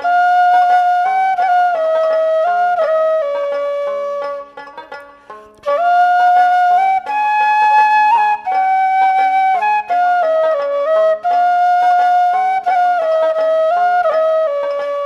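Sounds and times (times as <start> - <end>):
flute melody: 0.0 - 5.0, 5.6 - 15.0.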